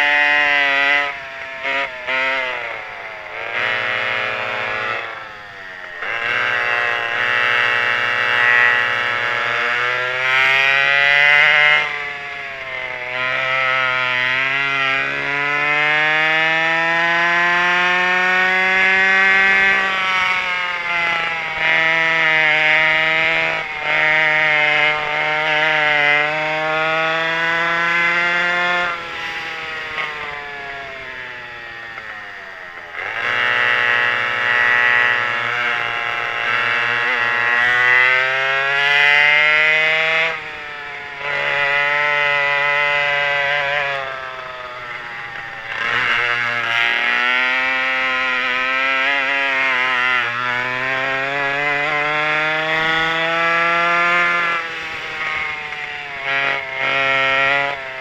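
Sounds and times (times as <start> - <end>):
two-stroke kart engines revving: 0.0 - 58.0.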